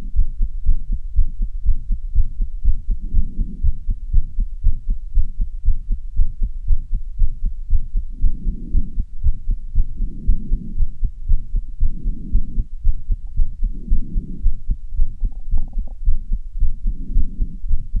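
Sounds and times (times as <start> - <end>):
fast pounding heartbeat: 0.0 - 18.0.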